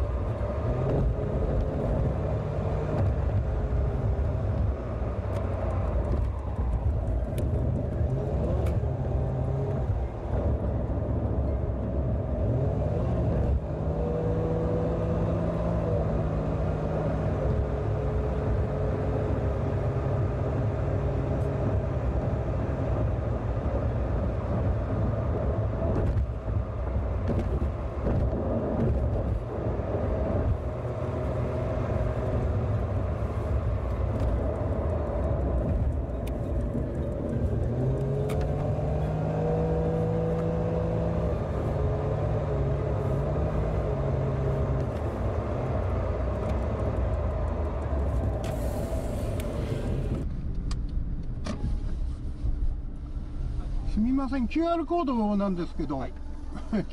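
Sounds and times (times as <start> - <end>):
car engine: 0.0 - 56.9
road noise: 0.0 - 56.9.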